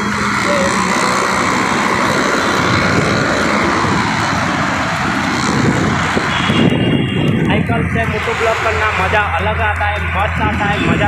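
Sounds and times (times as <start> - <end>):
road traffic: 0.0 - 11.0
wind roar on microphone: 0.0 - 11.0.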